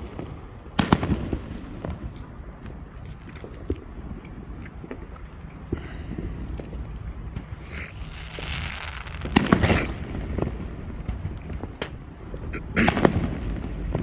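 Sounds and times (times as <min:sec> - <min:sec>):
fireworks single pops: 0:00.0 - 0:04.2, 0:06.5 - 0:14.0
fireworks bangs and crackles: 0:00.0 - 0:14.0.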